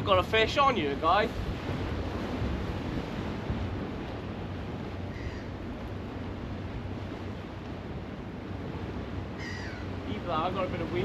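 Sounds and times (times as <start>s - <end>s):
surf on the shore: 0.0s - 11.0s
wind rumbling on microphone: 0.0s - 11.0s.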